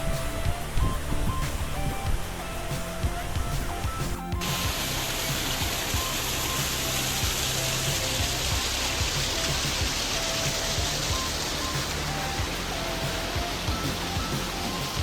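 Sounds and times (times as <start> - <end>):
background music: 0.0 - 15.0
rushing water hiss: 0.0 - 15.0.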